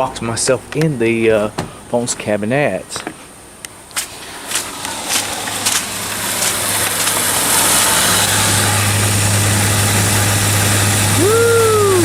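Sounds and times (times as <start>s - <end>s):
compressor low hum: 0.0s - 12.0s
condenser fan rushing air: 0.0s - 12.0s.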